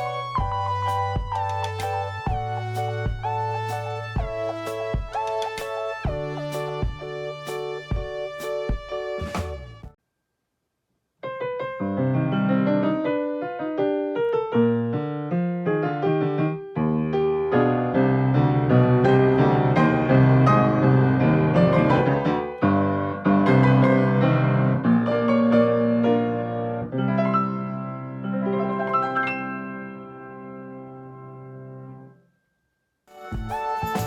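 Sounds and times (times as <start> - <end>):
piano background music: 0.0 - 10.0, 11.3 - 32.2, 33.1 - 34.0.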